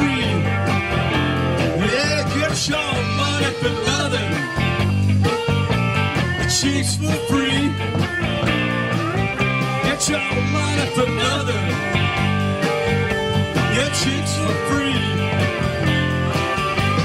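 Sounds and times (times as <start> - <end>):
blues-rock band playing: 0.0 - 17.0
steady drum beat: 0.0 - 17.0.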